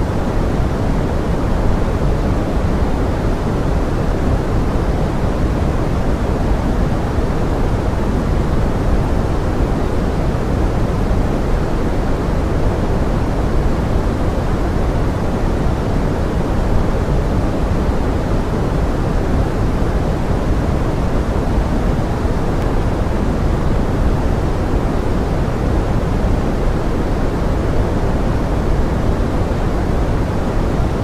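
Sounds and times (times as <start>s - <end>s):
pink noise: 0.0s - 31.0s.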